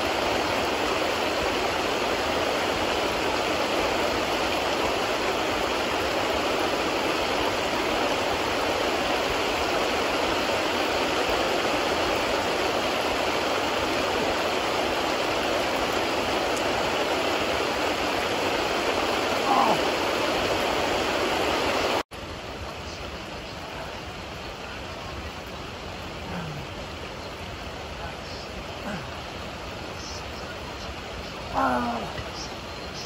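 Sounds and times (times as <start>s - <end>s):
fast-flowing river rushing: 0.0s - 33.0s.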